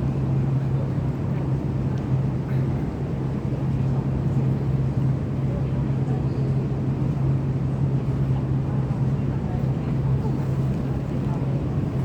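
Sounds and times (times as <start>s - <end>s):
train hum and rumble: 0.0s - 12.0s.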